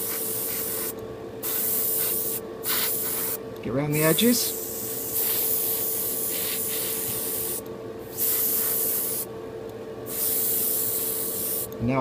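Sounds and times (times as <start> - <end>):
airbrush spraying hiss: 0.0 - 3.4, 4.1 - 9.3, 10.1 - 11.7
steady hum: 0.0 - 12.0.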